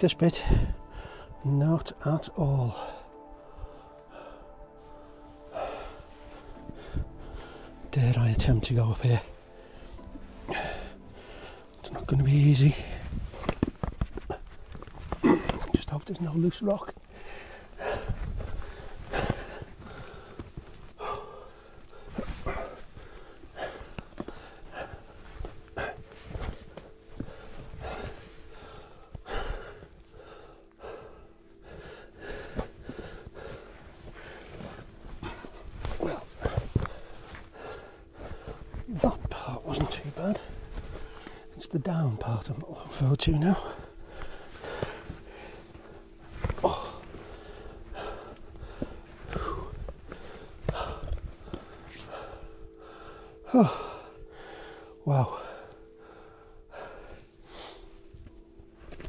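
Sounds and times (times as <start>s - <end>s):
heavy gasping breathing: 2.7s - 7.9s, 9.2s - 12.1s, 17.0s - 41.6s, 42.8s - 59.0s.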